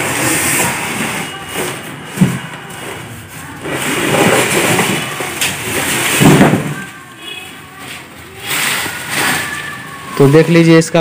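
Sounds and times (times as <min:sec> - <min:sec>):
plastic sheet rustling: 0:00.0 - 0:11.0.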